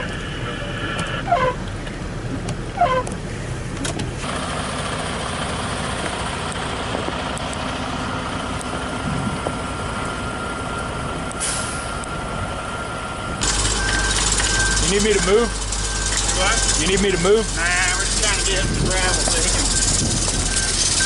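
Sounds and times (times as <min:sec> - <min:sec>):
heavy truck engine running: 0:00.0 - 0:21.0.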